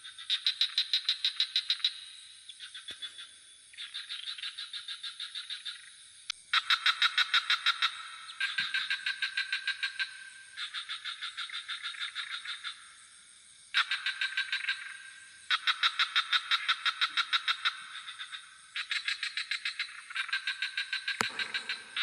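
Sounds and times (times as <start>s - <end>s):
frogs calling in pulsed notes: 0.0s - 22.0s
high insect drone: 0.0s - 22.0s.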